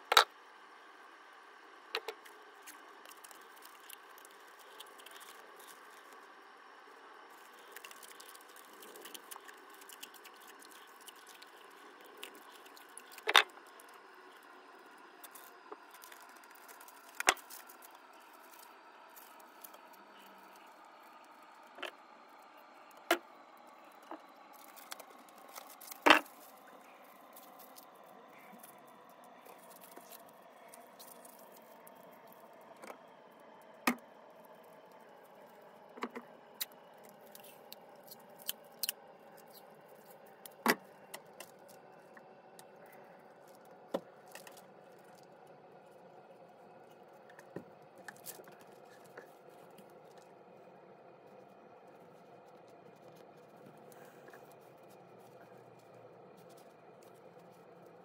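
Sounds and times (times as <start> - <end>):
faint steady multi-tone hum: 0.0 - 58.0.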